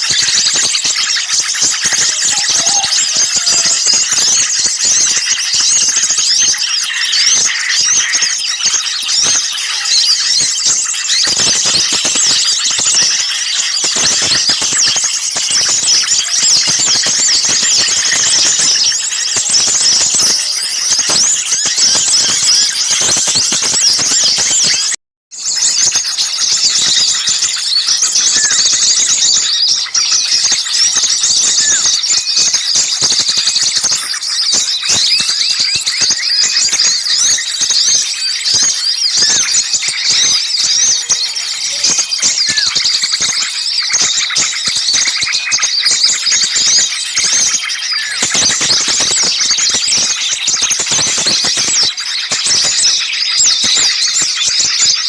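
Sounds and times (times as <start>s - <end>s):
songbirds chirping and chattering: 0.0s - 55.0s.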